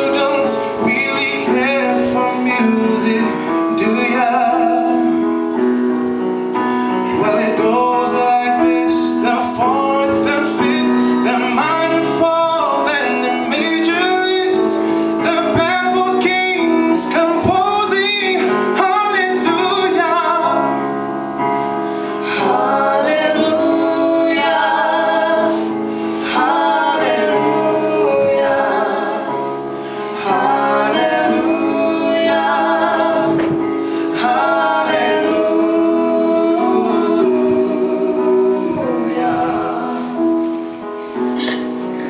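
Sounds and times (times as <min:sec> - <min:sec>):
man and woman singing: 0:00.0 - 0:05.6, 0:07.0 - 0:41.8
electronic keyboard chords: 0:00.0 - 0:42.0.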